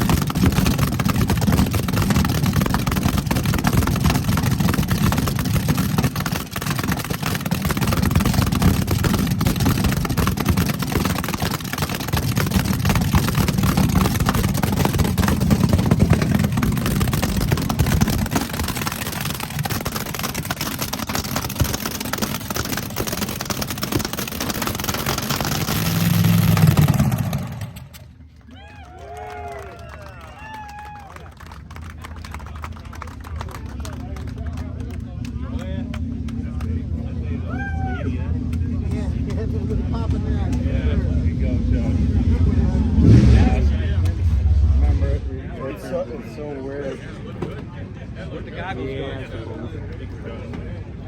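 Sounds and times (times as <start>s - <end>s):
drag-race car engine: 0.0s - 28.3s, 31.4s - 37.5s, 38.1s - 48.8s.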